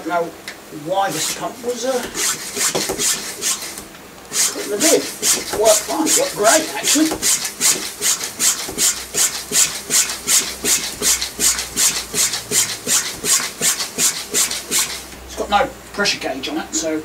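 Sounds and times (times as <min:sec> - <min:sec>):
bicycle pump strokes hissing: 0:00.9 - 0:15.1.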